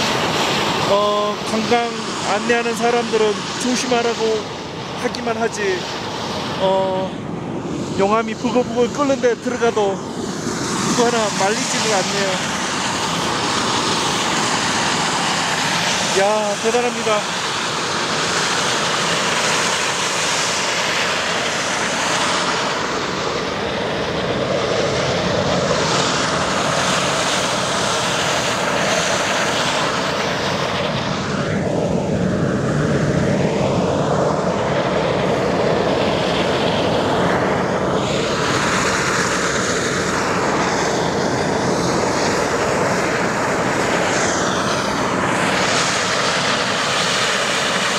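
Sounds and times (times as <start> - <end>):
steam hissing from fumaroles: 0.0 - 31.4, 34.3 - 47.9.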